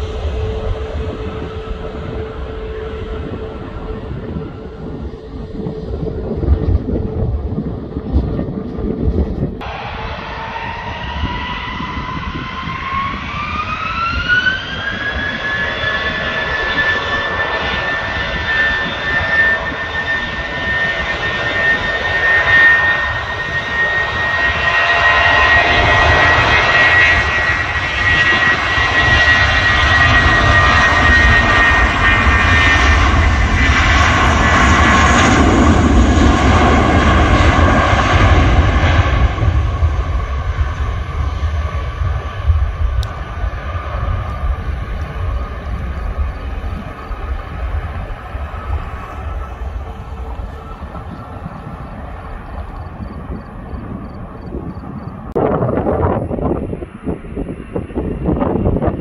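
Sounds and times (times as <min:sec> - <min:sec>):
deep engine rumble: 0:00.0 - 0:21.5, 0:23.4 - 0:59.0
jet engine whine: 0:00.0 - 0:59.0.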